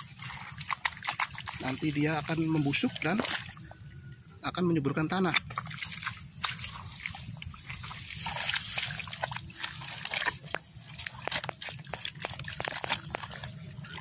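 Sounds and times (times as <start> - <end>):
feet squelching in wet mud: 0.0 - 4.0, 5.1 - 14.0.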